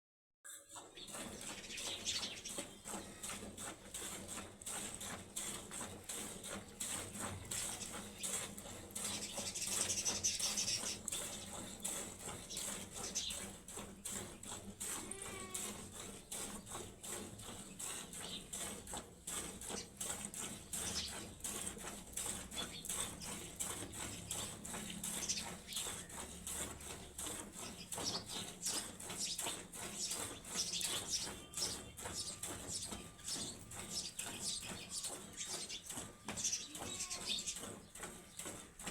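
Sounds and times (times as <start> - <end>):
milk squirting into bucket: 0.7 - 38.9.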